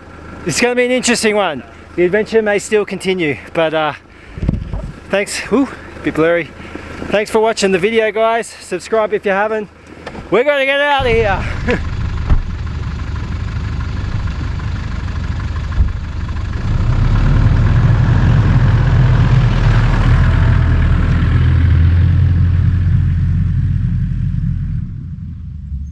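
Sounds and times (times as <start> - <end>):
car engine rumble: 0.0 - 25.9.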